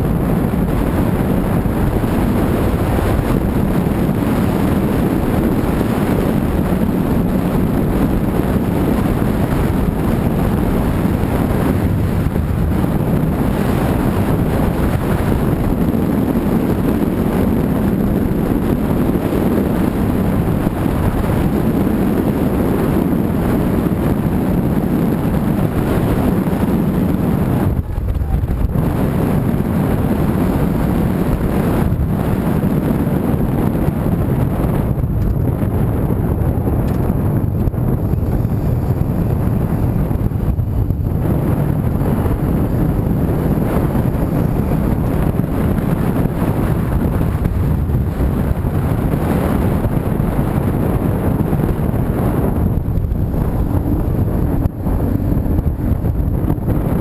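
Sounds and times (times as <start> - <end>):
vehicle rumble: 0.0 - 57.0
wind rushing over microphone: 0.0 - 57.0.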